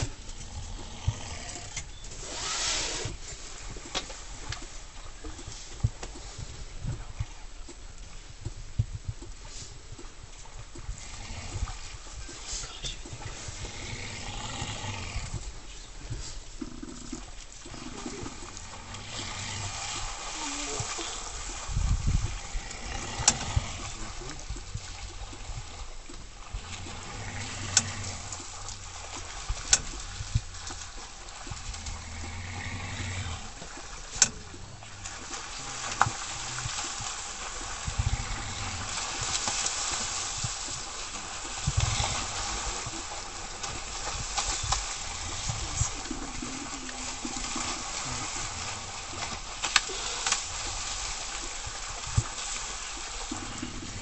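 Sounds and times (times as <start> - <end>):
water splashing and churning: 0.0 - 54.0.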